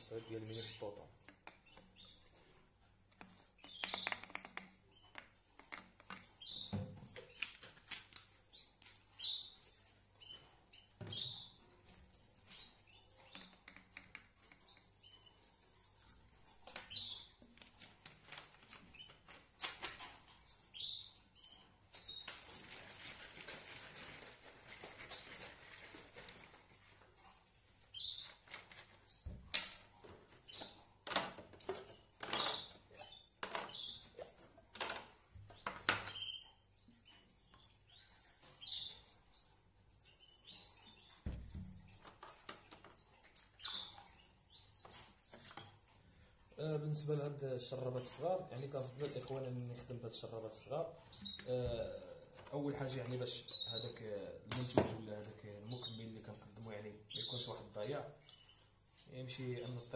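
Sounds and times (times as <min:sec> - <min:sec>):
canaries chirping: 0:00.0 - 0:59.9.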